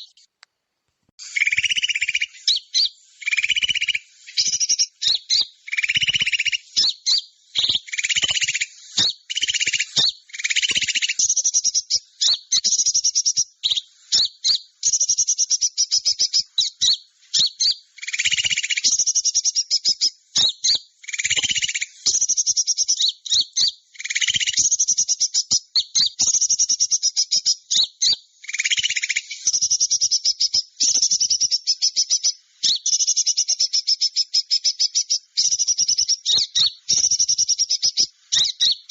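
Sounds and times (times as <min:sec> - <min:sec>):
small birds chattering trills: 0:00.0 - 0:00.4, 0:01.2 - 0:38.9.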